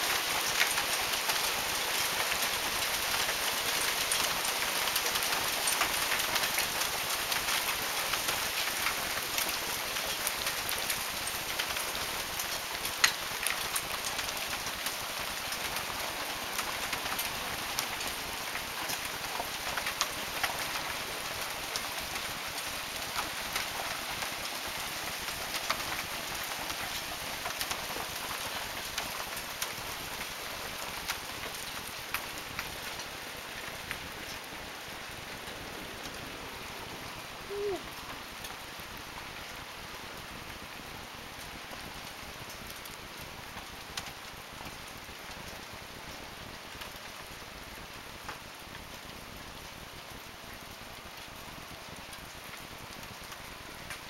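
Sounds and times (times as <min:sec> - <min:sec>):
hail falling: 0:00.0 - 0:54.0.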